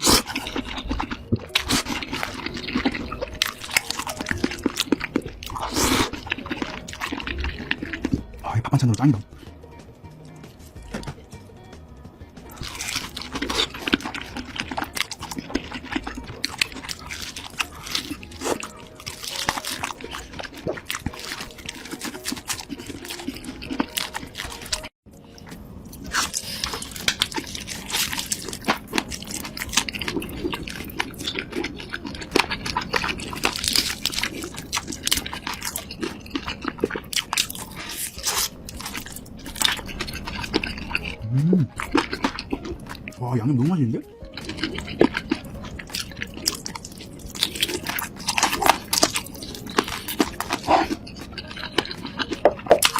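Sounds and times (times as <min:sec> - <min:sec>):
crunching and chewing food: 0:00.0 - 0:09.6, 0:12.3 - 0:52.9.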